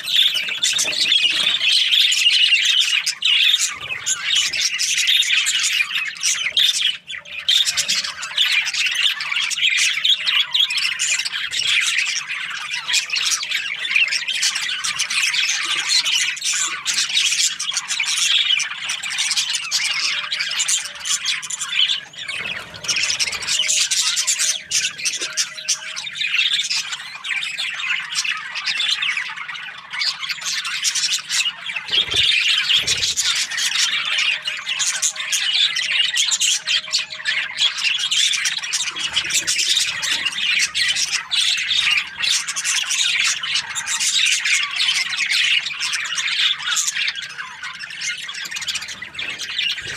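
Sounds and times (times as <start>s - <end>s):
budgerigars chirping: 0.0s - 49.9s.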